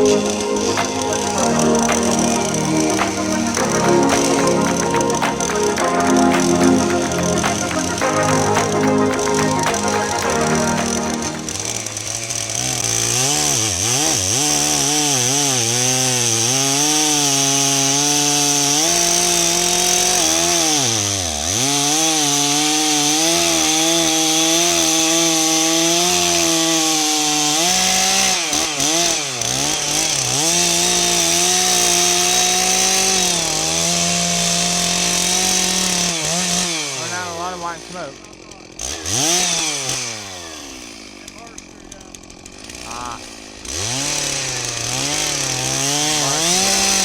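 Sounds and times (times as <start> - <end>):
chainsaw cutting wood: 0.0 - 47.0.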